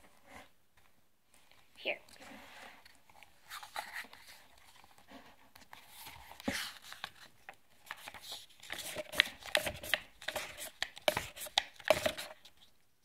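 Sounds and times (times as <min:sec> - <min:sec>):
book pages rustling and flipping: 0:00.0 - 0:12.8.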